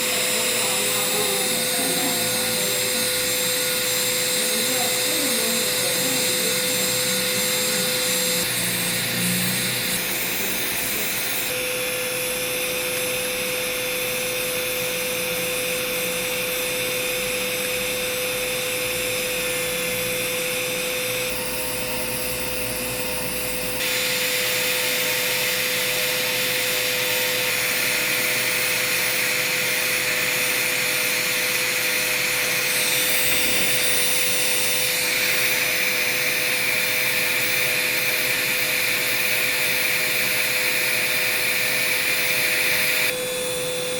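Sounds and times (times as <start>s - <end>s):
rotary grinder motor whine: 0.0s - 43.9s.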